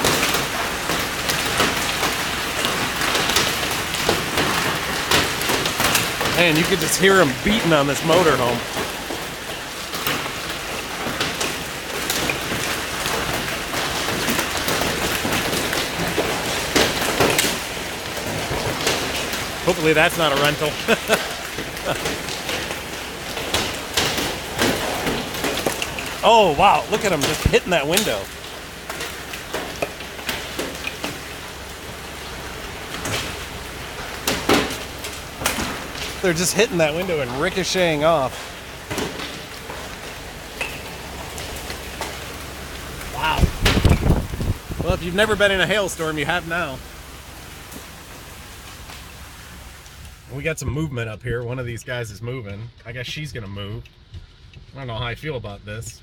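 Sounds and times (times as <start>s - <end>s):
hail and rain clattering: 0.0s - 50.4s.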